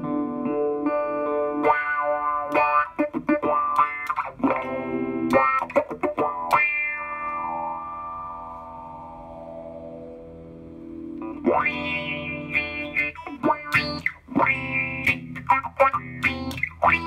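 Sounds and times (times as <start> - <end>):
electric guitar with filter effect: 0.0 - 17.0.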